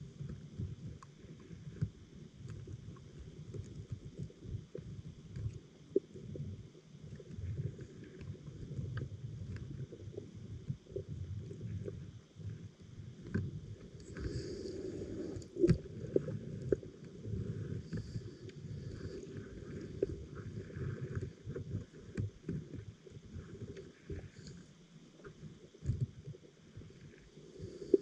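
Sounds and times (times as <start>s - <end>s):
underwater rumble of moving water: 0.0s - 28.0s.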